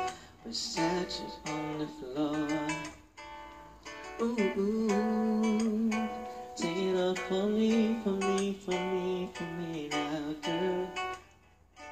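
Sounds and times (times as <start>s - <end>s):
person singing into a microphone: 0.0s - 3.0s, 4.2s - 11.2s
plucked acoustic guitar backing: 0.0s - 11.9s.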